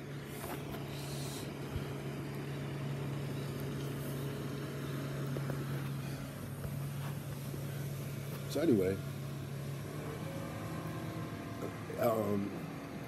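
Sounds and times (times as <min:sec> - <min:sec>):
motorboat engine drone: 0:00.0 - 0:13.0.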